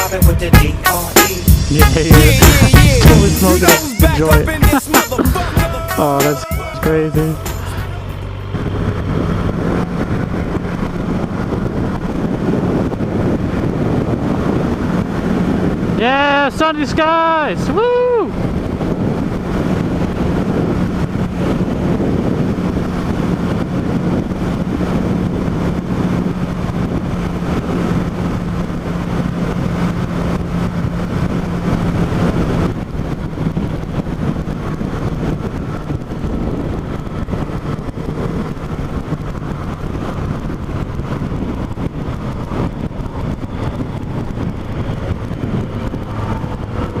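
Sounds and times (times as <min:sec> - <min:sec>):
motorcycle engine running: 0:00.0 - 0:16.1, 0:18.3 - 0:47.0
wind rushing over microphone: 0:00.0 - 0:47.0.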